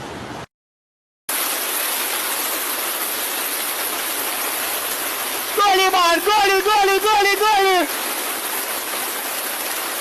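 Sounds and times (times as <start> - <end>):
floodwater rushing: 1.3 - 10.0.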